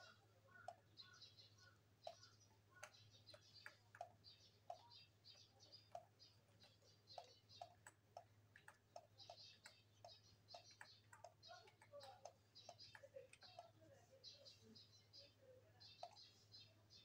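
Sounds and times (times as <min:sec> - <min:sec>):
faint small clicks and ticks: 0:00.0 - 0:14.5, 0:15.8 - 0:16.7.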